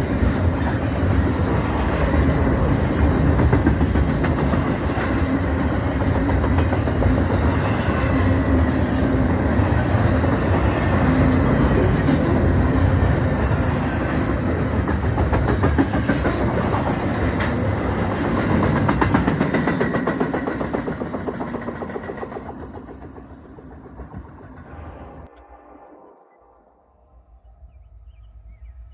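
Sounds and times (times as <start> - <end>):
train wheels clicking over rail joints: 0.0 - 25.1
freight train rolling past: 0.0 - 28.9.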